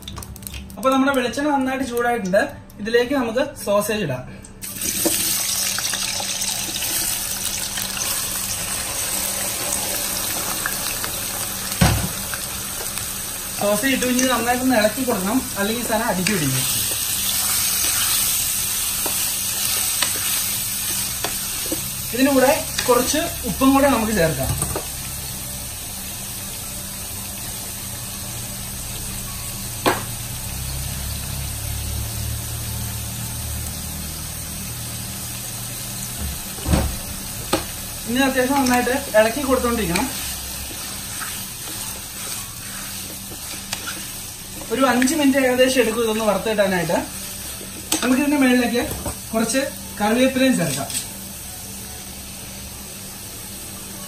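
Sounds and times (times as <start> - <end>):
sausages sizzling in oil: 4.6 - 54.0.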